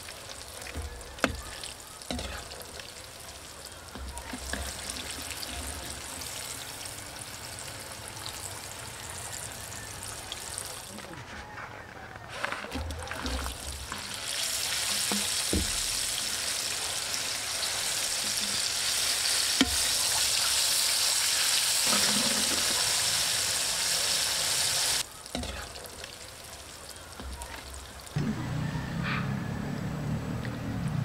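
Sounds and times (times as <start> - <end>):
food deep-frying in hot oil: 0.0 - 11.0, 12.8 - 28.2.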